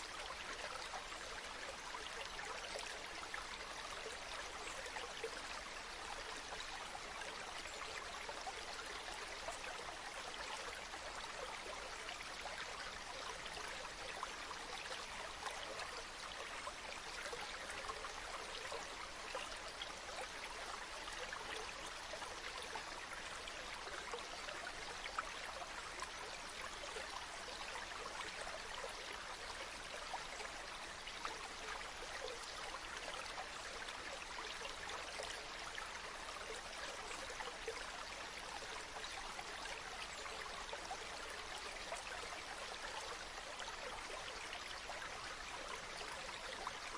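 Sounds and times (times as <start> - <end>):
stream trickling and bubbling: 0.0 - 46.9.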